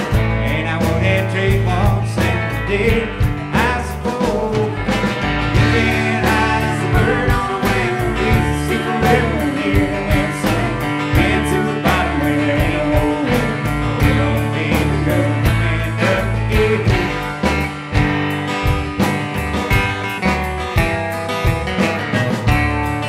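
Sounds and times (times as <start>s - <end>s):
drums: 0.0s - 23.0s
electric guitar: 0.0s - 23.0s
strummed acoustic guitar: 0.0s - 23.0s
upright bass: 0.0s - 23.0s.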